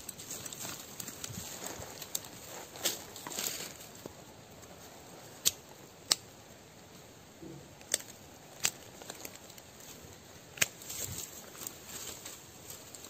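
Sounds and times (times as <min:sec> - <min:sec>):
rustling of soil and leaves: 0:00.0 - 0:13.0.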